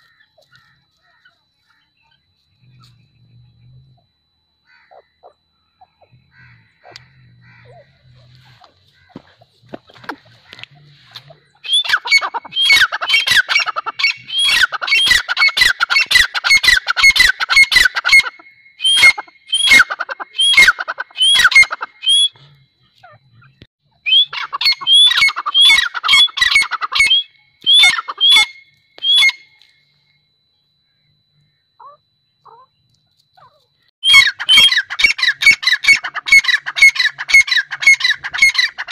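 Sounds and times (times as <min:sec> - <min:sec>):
francolins calling harshly: 0:04.6 - 0:29.9, 0:31.4 - 0:32.8, 0:33.4 - 0:38.9.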